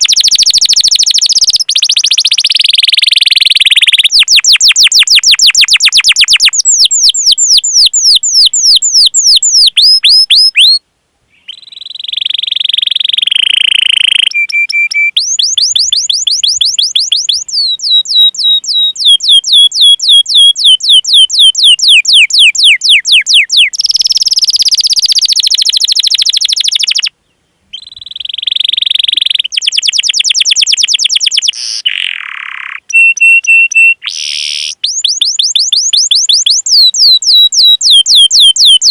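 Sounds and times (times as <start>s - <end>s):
canary singing: 0.0s - 10.8s, 11.4s - 27.1s, 27.7s - 38.9s.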